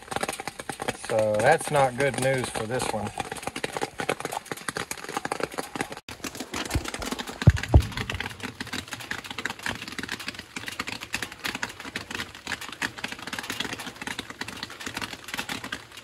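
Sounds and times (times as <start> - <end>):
rain ticking on umbrella: 0.0 - 16.0.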